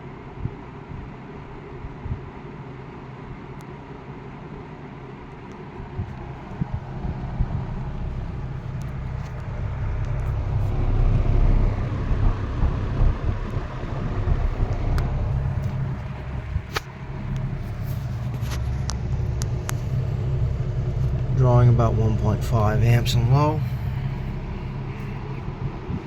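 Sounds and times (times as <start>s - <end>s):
box fan running: 0.0s - 26.0s.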